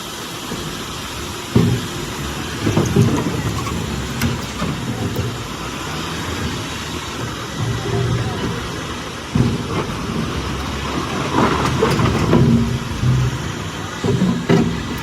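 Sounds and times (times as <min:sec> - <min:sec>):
diesel machinery rumbling: 0:00.0 - 0:15.0.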